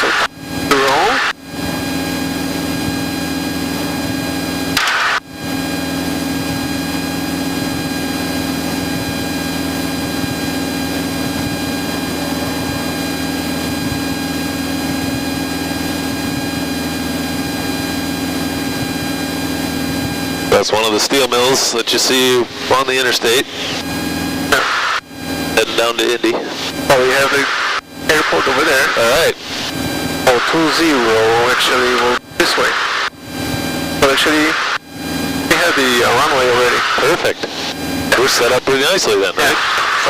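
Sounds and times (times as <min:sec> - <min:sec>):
airplane engine and propeller droning: 0:00.0 - 0:40.0.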